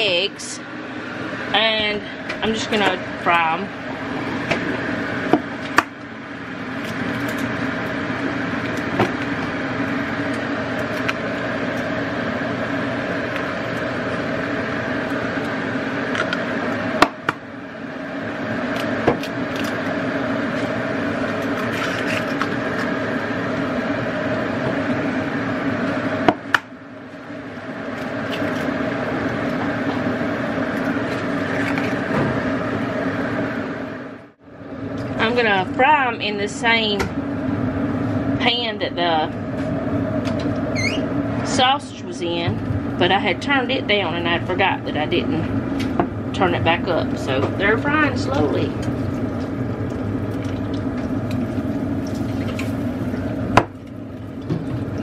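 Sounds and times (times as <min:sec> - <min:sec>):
kitchen appliance humming: 0:00.0 - 0:55.0.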